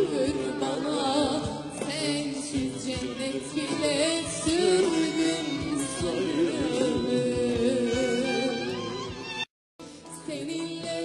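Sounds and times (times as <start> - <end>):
woman singing: 0.0 - 9.1, 9.9 - 11.0
string ensemble playing: 0.0 - 9.5.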